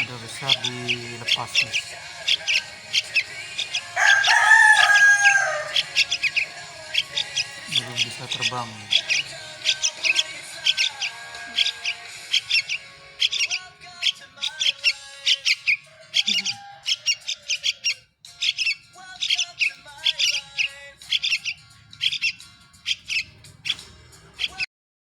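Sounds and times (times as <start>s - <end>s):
background music: 0.0s - 24.7s
chick chirping: 0.0s - 24.7s.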